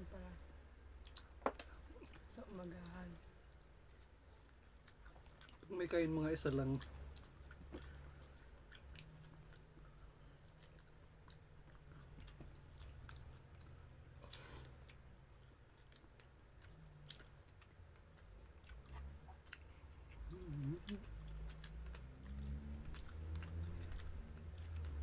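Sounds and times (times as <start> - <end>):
people chewing: 0.9 - 25.0.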